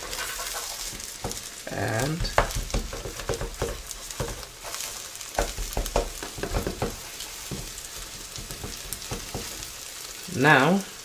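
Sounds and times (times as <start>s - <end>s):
spatula tapping and scraping pan: 0.0s - 9.8s
omelette sizzling in oil: 0.0s - 11.0s.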